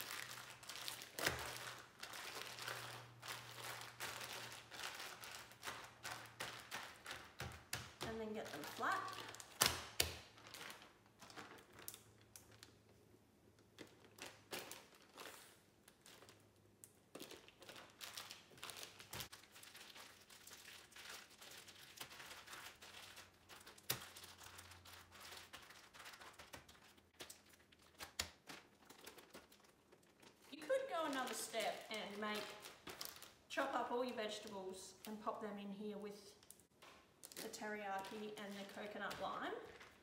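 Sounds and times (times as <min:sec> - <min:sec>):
plastic bags crinkling: 0:00.0 - 0:12.9, 0:13.6 - 0:35.1, 0:36.4 - 0:40.0.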